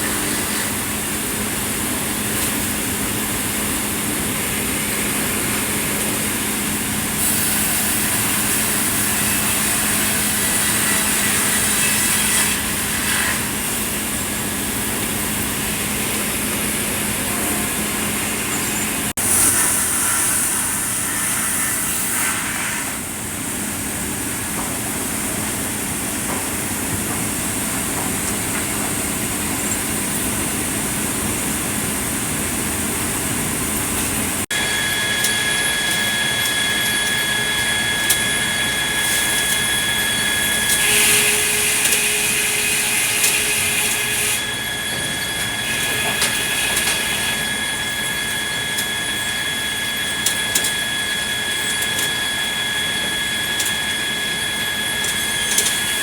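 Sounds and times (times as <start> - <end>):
sawmill saws cutting wood: 0.0 - 23.3, 34.2 - 56.0.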